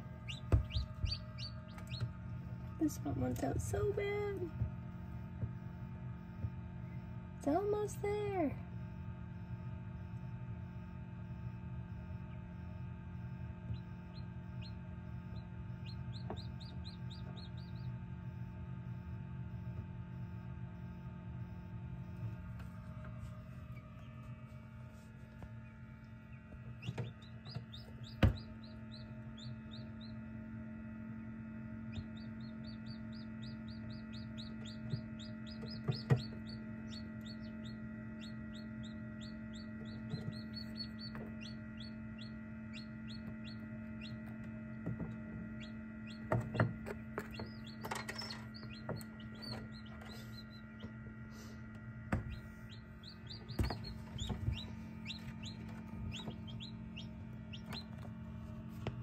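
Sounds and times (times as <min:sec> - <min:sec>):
chicks peeping: 0:00.0 - 0:05.4, 0:11.9 - 0:19.9, 0:21.5 - 0:30.7, 0:31.6 - 0:59.0
incubator humming: 0:00.0 - 0:59.0.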